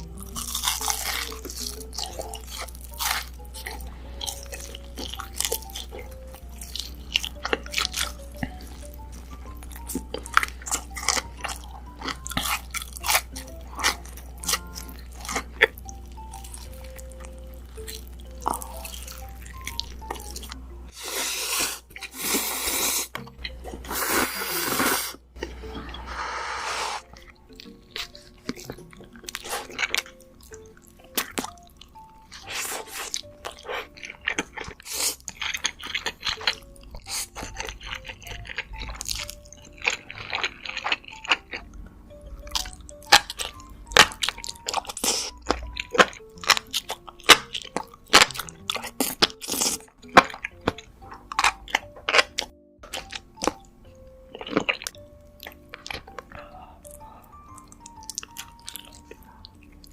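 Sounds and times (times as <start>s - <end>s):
crunchy wet chewing: 0.0s - 25.5s, 27.0s - 59.9s
close-miked eating sounds: 0.0s - 59.9s
soft background music: 0.0s - 59.9s.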